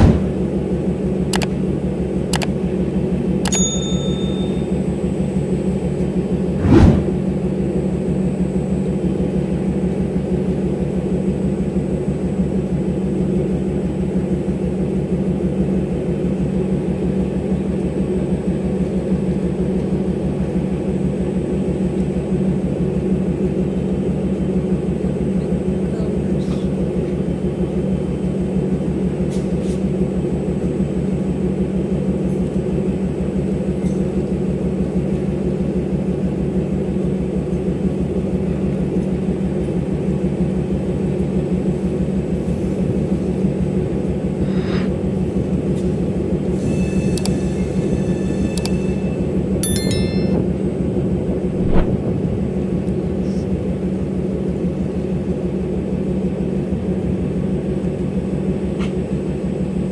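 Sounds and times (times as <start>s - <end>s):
diesel locomotive engine running: 0.0s - 59.9s.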